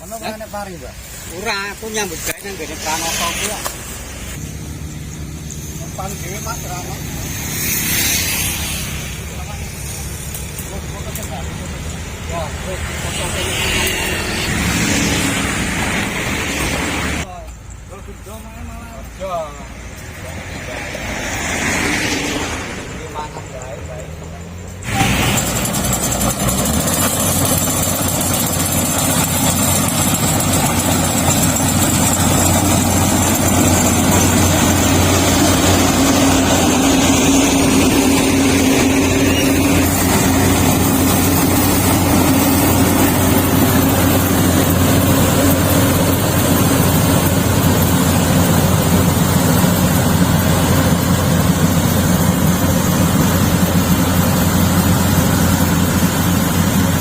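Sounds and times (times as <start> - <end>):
combine harvester engine running: 0.0 - 21.7, 23.0 - 57.0.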